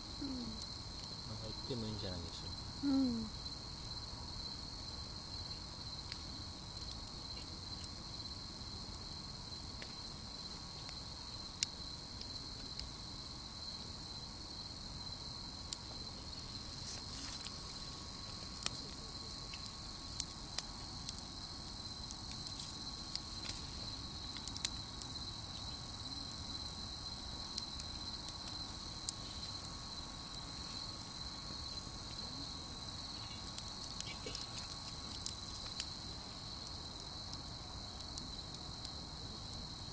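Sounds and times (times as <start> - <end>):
campfire popping and crackling: 0.0 - 39.9
crickets trilling: 0.0 - 39.9.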